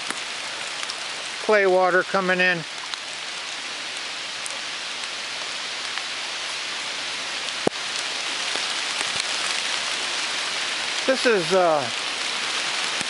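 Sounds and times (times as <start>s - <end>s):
falling water hissing: 0.0s - 13.0s.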